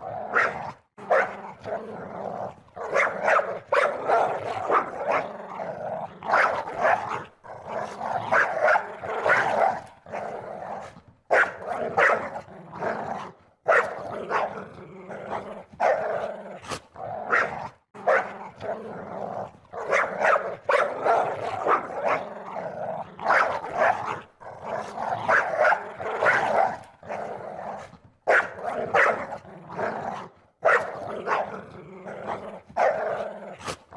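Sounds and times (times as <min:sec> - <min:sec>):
dog growling: 0:00.0 - 0:33.9
dog barking: 0:00.3 - 0:01.8, 0:02.8 - 0:13.0, 0:13.6 - 0:16.3, 0:17.2 - 0:18.8, 0:19.8 - 0:33.8.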